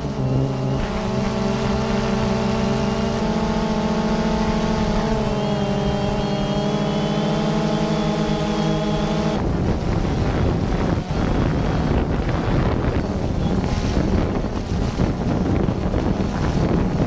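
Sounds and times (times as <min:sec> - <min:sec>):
quadcopter rotors humming: 0:00.0 - 0:17.0
rushing wind noise: 0:00.0 - 0:17.0.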